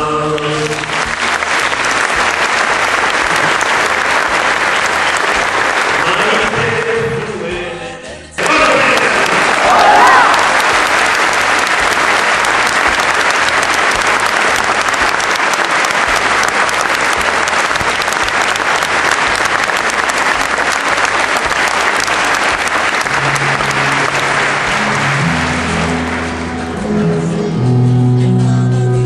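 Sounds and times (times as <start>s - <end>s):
audience applauding: 0.0s - 7.4s, 8.4s - 26.8s.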